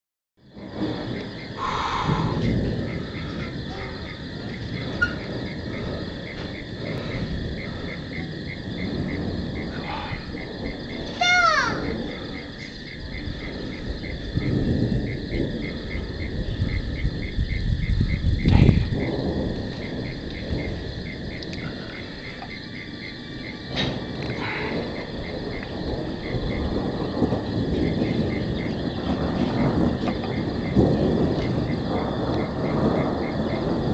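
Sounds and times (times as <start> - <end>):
crickets chirping: 0.4 - 33.9
high insect trill: 0.4 - 33.9
low background rumble: 0.5 - 33.9.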